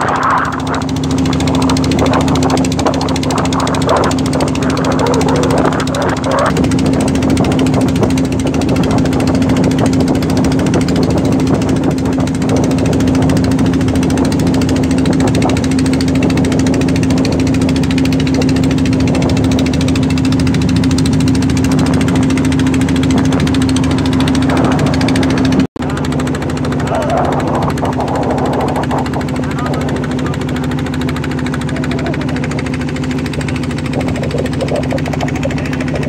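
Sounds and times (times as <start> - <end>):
boat engine pulsing drone: 0.0 - 36.0.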